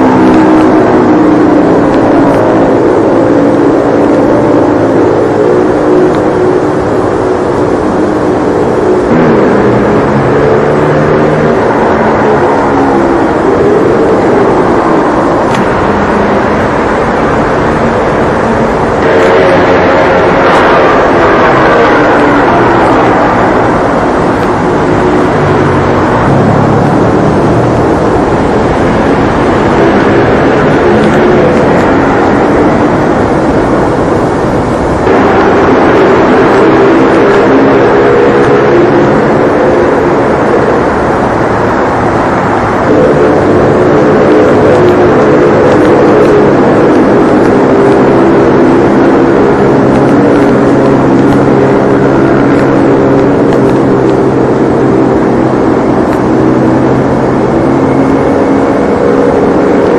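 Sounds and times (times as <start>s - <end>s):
engine drone: 0.0s - 59.9s
rough noisy rush: 0.0s - 59.9s.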